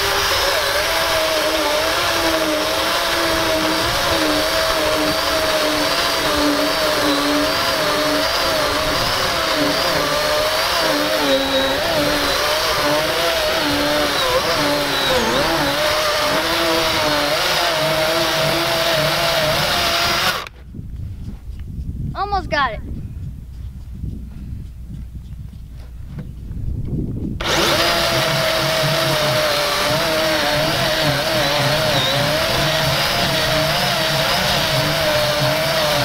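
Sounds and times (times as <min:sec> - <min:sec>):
electric chainsaw cutting wood: 0:00.0 - 0:20.5, 0:27.4 - 0:36.0.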